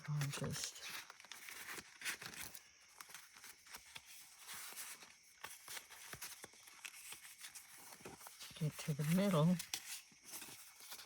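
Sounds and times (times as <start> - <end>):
magazine pages rustling: 0.0 - 11.0.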